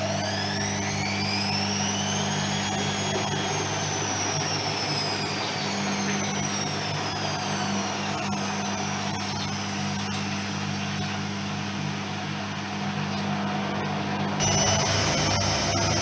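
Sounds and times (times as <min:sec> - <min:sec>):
high whine falling in pitch: 0:00.0 - 0:16.0
washing machine motor hum: 0:00.0 - 0:16.0.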